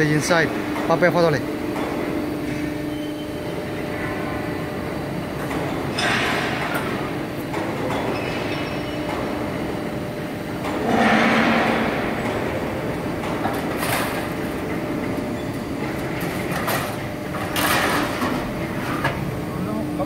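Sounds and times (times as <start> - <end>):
hydraulic shear mechanical hum: 0.0 - 20.0.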